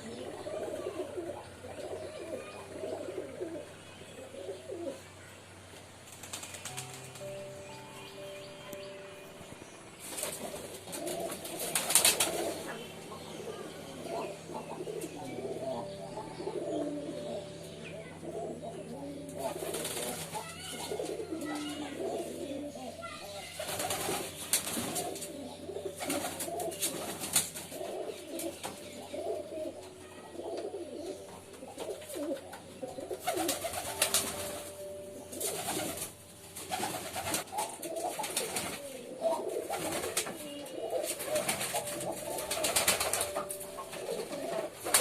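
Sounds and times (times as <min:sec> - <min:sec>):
pigeons cooing: 0:00.0 - 0:06.9, 0:09.6 - 0:45.0.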